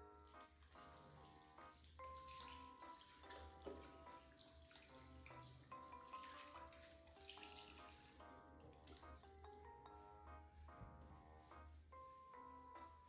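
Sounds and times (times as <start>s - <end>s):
soft background melody: 0.0s - 13.0s.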